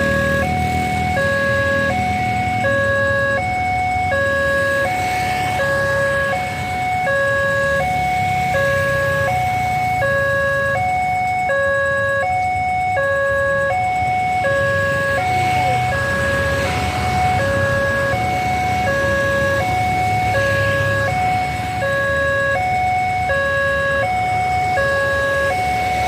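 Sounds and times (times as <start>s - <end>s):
two-tone level crossing alarm: 0.0s - 26.0s.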